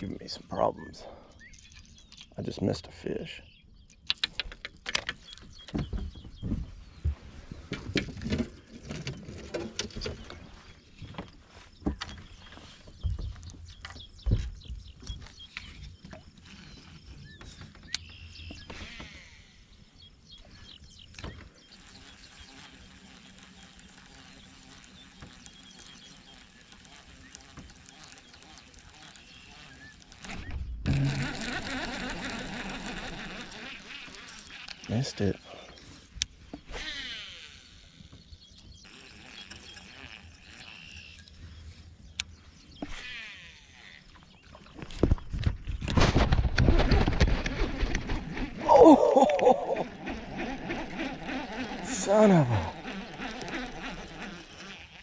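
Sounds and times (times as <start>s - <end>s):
fishing rods and reels clattering: 4.0s - 6.2s, 7.6s - 19.5s, 21.1s - 41.7s, 42.3s - 55.0s.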